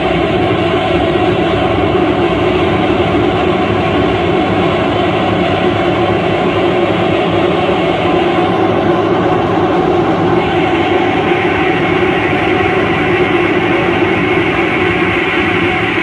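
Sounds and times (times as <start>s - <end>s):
harsh distorted static noise: 0.0s - 16.0s.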